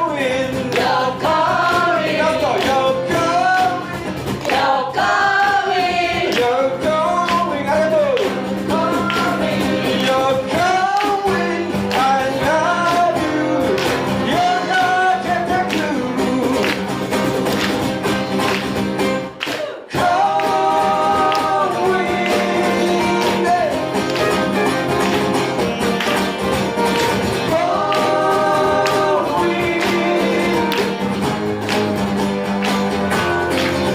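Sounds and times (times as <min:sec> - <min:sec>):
guitar chords: 0:00.0 - 0:33.9.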